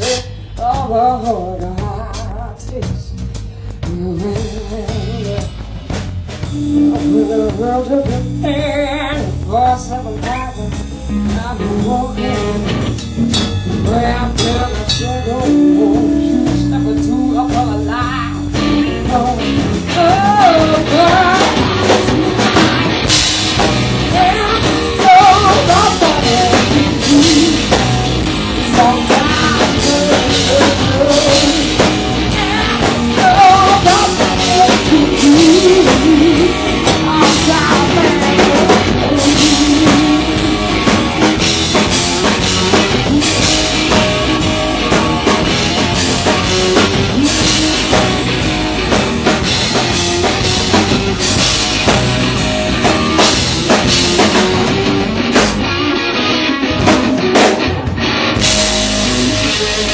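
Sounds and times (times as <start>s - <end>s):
woman singing: 0.0s - 5.8s, 6.4s - 50.7s
blues-rock band playing: 0.0s - 59.9s.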